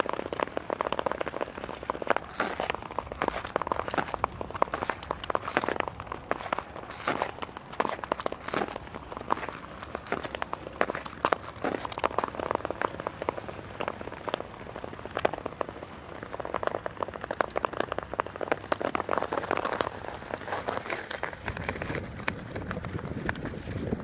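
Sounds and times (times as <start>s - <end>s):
ice skate blades scraping ice: 0.0s - 24.0s.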